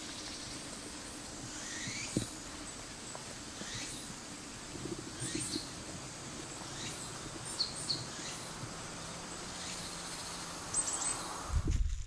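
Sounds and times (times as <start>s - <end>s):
birds chirping: 0.0s - 11.6s
forest background: 0.0s - 12.0s.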